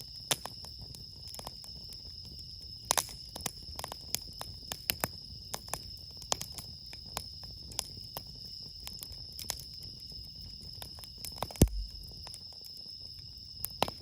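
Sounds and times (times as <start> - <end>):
crickets trilling: 0.0 - 14.0
campfire crackling and popping: 0.3 - 12.8.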